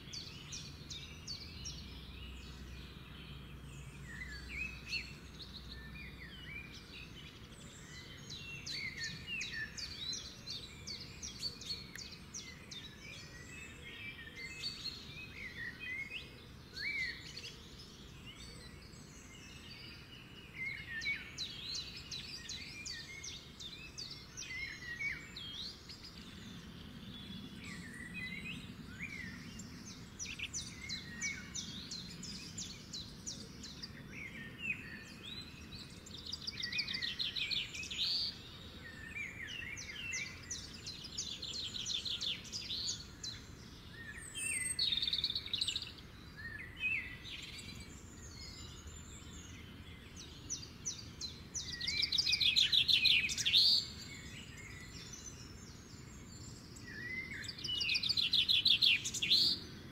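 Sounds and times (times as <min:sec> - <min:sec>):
low steady background noise: 0:00.0 - 0:59.9
birds chirping and whistling: 0:03.8 - 0:59.9.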